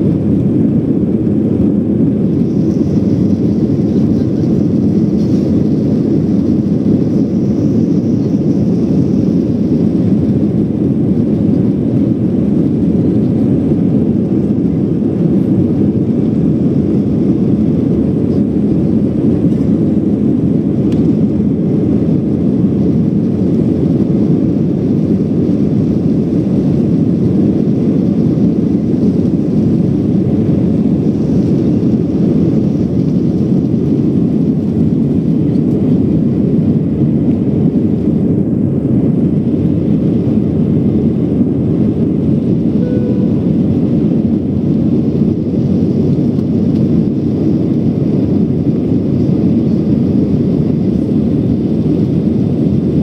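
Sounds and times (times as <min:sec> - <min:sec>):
jet engines roaring in cabin: 0:00.0 - 0:53.0.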